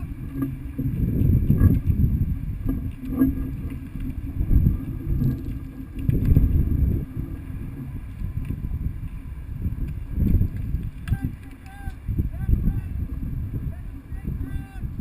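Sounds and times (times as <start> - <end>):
rumbling wind on microphone: 0.0 - 15.0.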